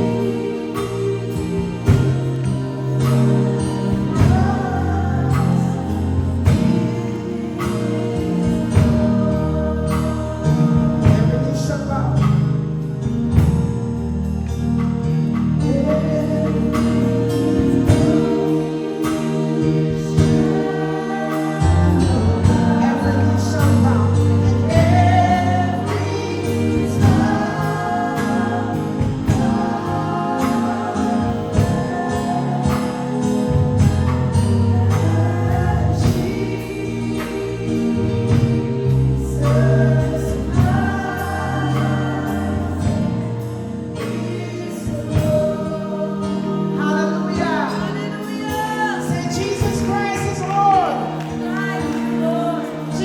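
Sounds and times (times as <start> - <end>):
voices singing: 0.0 - 13.8, 14.4 - 53.0
gospel band playing: 0.0 - 53.0.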